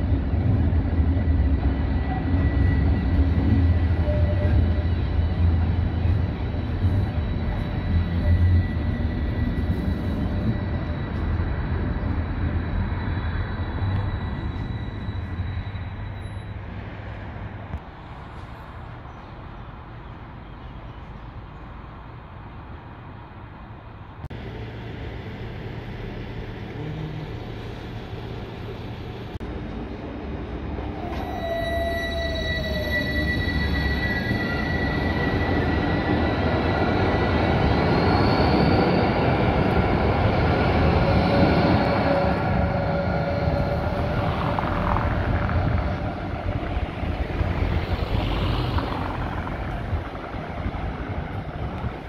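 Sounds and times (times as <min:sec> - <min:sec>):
tram wheels rumbling on rail: 0:00.0 - 0:52.0.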